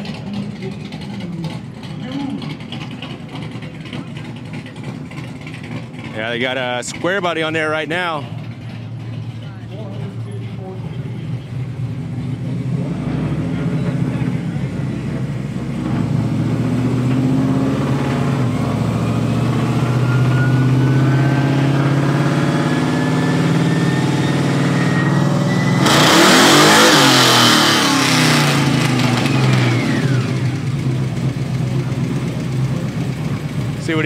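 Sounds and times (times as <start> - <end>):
truck engine revving at full throttle: 0.0 - 34.0.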